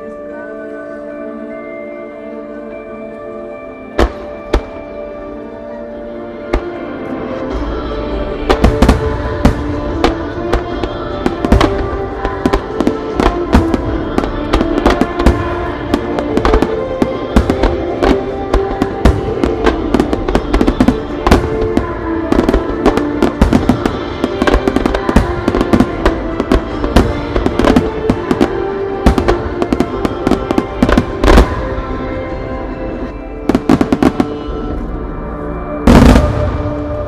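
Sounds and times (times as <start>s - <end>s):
music playing: 0.0s - 37.0s
fireworks bursting: 4.0s - 5.0s, 6.4s - 35.1s, 35.8s - 37.0s.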